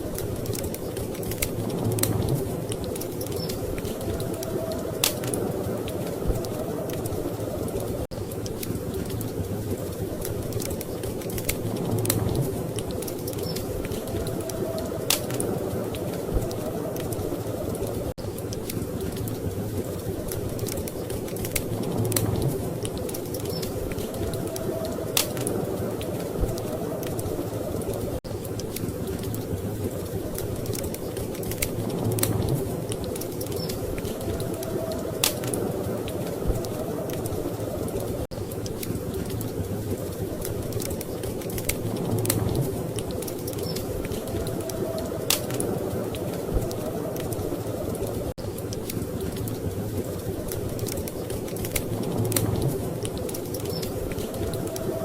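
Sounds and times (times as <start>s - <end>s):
storm wind rumbling: 0.0s - 55.0s
wood fire crackling: 0.0s - 55.0s.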